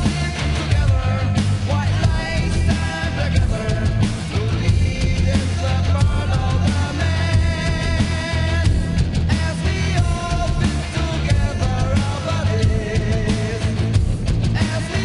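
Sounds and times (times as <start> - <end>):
metal song with electric guitars: 0.0 - 15.0.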